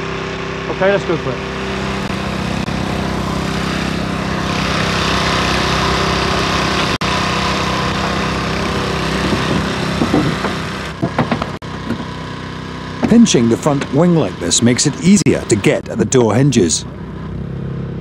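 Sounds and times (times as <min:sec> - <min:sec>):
small engine running steadily: 0:00.0 - 0:18.0.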